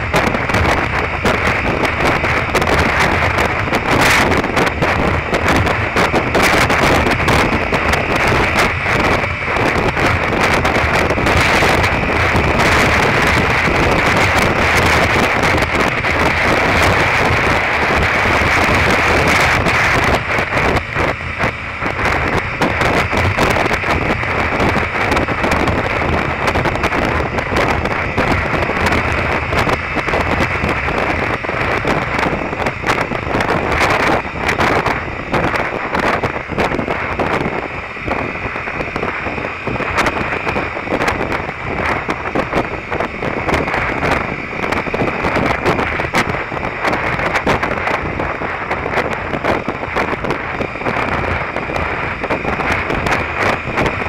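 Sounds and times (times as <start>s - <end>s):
motorcycle engine: 0.0s - 54.0s
wind buffeting microphone: 0.0s - 54.0s.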